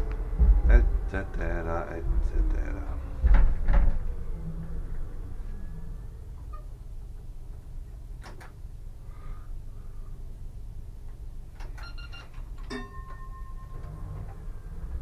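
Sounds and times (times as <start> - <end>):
tram cab hum and rumble: 0.0 - 15.0.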